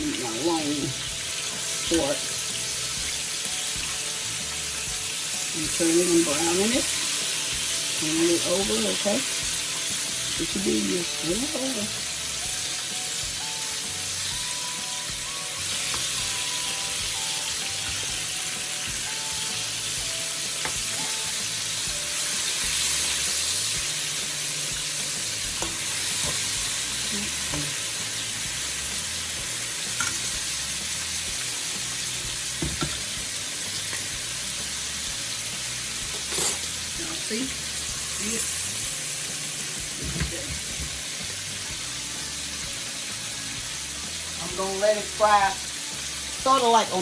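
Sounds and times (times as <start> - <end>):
pork sizzling in a pan: 0.0 - 47.0.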